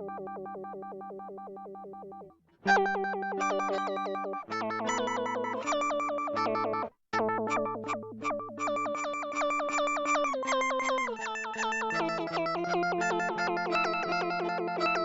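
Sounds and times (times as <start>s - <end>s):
synthesizer plucked notes pattern: 0.0s - 15.0s.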